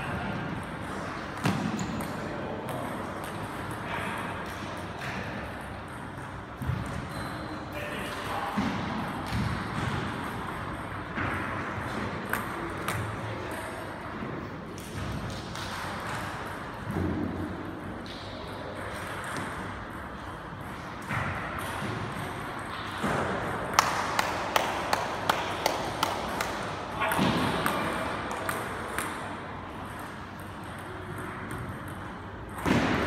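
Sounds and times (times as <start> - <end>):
sports hall noise: 0.0 - 33.0.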